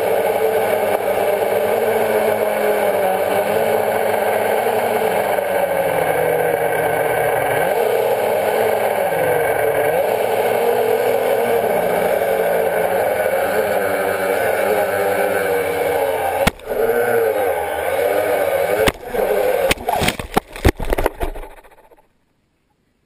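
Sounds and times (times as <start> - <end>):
drone propellers whirring: 0.0 - 22.0.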